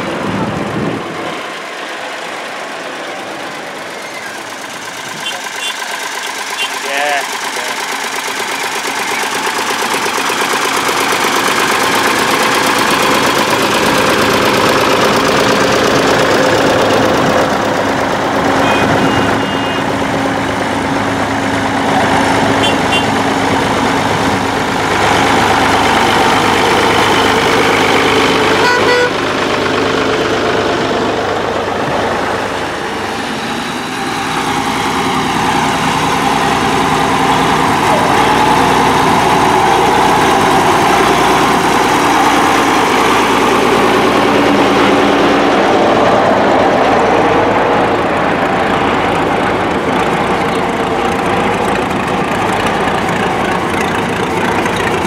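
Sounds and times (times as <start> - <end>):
tractor engines driving past: 0.0 - 55.0.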